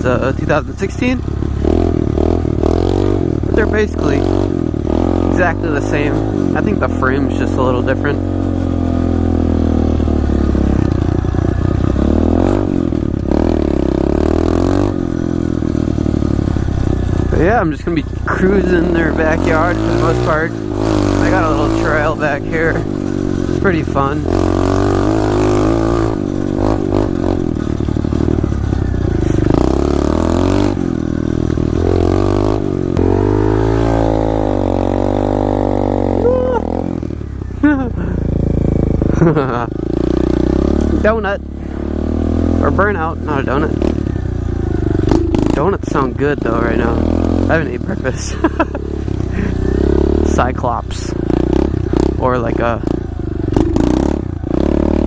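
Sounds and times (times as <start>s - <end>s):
motorbike engine accelerating: 0.0s - 55.0s.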